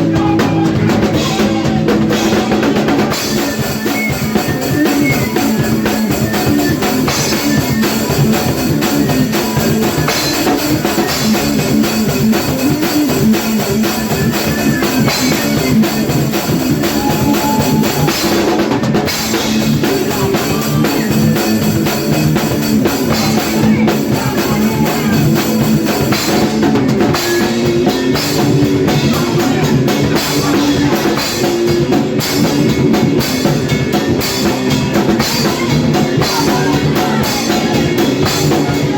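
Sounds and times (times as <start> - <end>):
drum kit with heavy bass drum: 0.0 - 38.9
electric guitar: 0.0 - 38.9.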